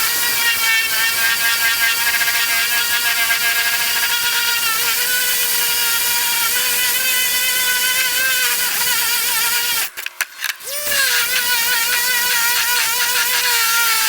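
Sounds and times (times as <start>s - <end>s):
power tool motor whining: 0.0s - 14.0s.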